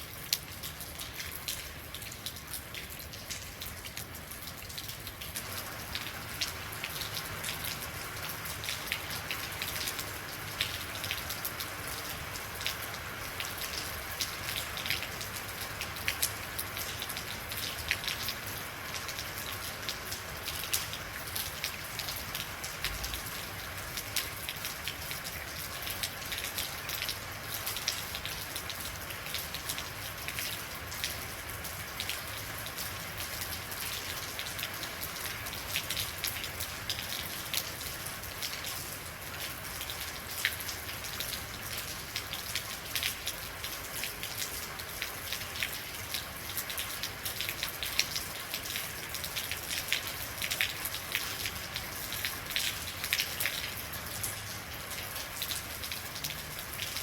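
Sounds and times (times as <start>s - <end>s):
rain drops ticking on hard surface: 0.0s - 57.0s
steady rain hiss: 0.0s - 57.0s.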